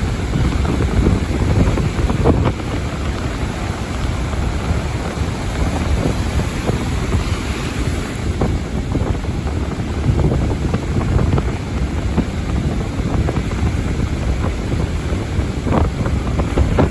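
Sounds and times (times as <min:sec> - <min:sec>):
small waves splashing: 0:00.0 - 0:16.9
wind buffeting microphone: 0:00.0 - 0:16.9.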